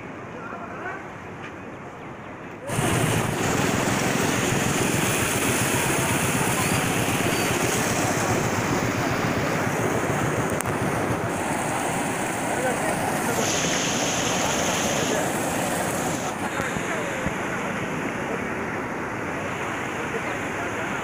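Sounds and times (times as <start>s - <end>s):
floodwater rushing and churning: 2.6s - 21.0s.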